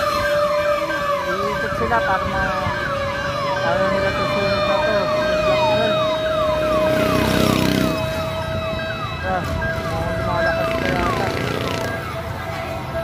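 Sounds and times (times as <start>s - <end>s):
emergency siren falling sweeps: 0.0s - 13.0s.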